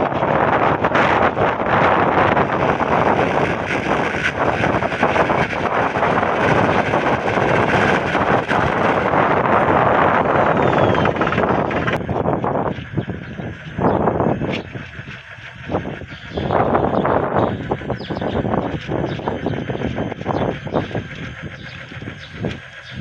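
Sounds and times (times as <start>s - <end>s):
spinning rotor whirring: 0.0s - 23.0s.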